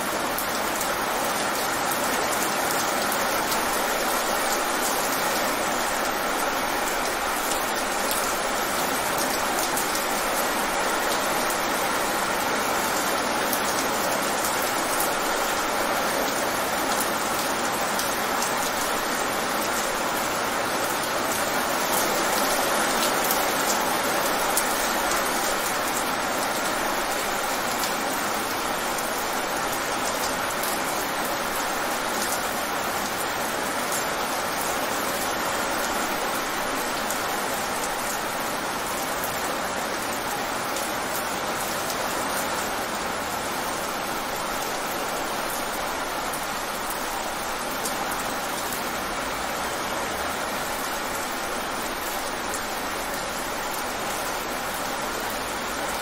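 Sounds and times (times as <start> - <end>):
rain on wet pavement: 0.0 - 56.0.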